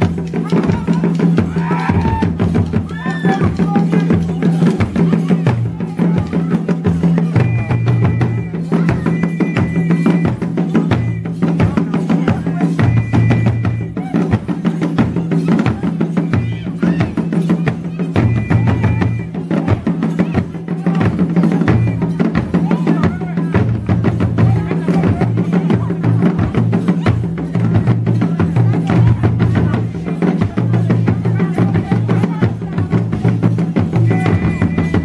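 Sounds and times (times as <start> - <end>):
low drum beat: 0.0 - 35.0
quick percussive strokes: 0.0 - 35.0.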